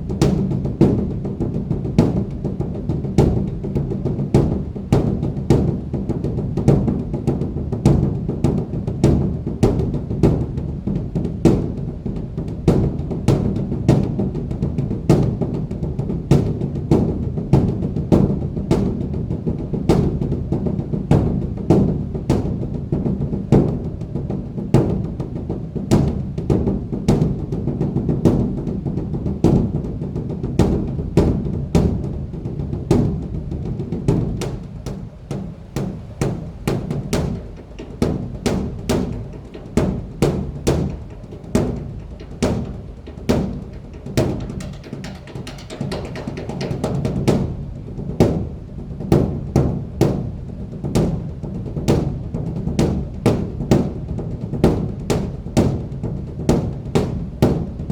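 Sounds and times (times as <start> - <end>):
large barrel drum booming: 0.0 - 57.9.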